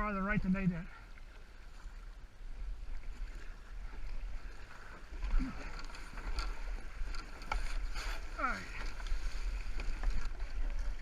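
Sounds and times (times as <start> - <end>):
water splashing against canoe: 0.0 - 11.0.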